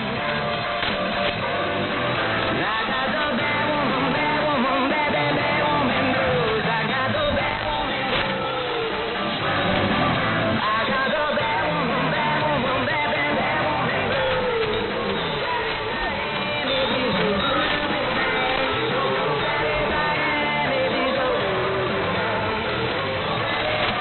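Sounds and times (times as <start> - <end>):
muffled rock song on radio: 0.0 - 24.0.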